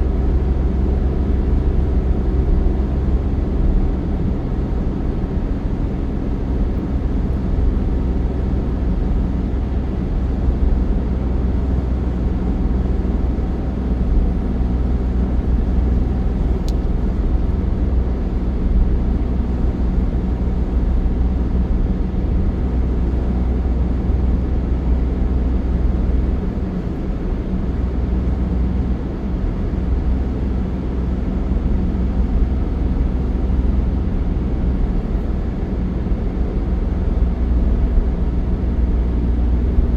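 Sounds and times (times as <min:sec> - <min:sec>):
road rumble: 0:00.0 - 0:39.9
vehicle engine drone: 0:00.0 - 0:39.9.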